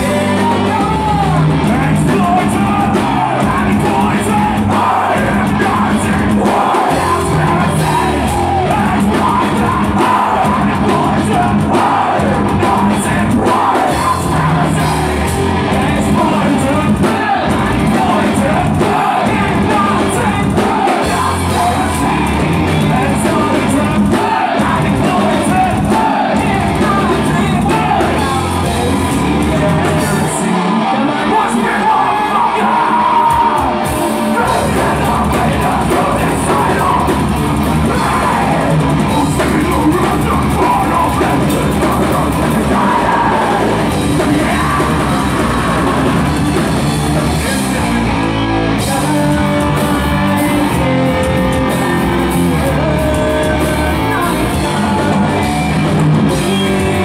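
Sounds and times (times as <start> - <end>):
distorted electric guitars: 0.0 - 57.0
drum kit played hard: 0.0 - 57.0
vocals: 0.0 - 57.0.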